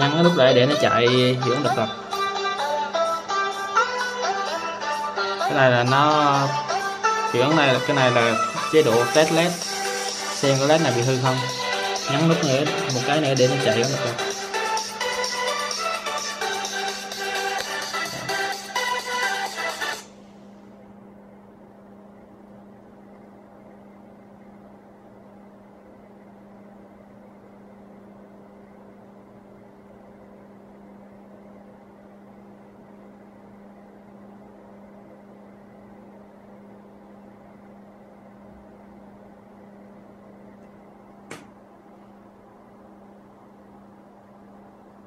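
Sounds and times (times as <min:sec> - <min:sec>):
steady electrical hum: 0:00.0 - 0:45.0.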